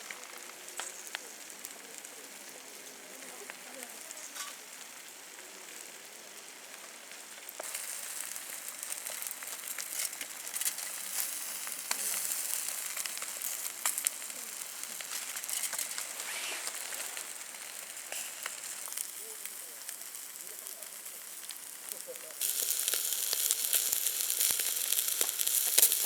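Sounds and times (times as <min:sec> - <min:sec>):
crackles and pops: 0:00.0 - 0:26.0
food sizzling in a pan: 0:00.0 - 0:26.0.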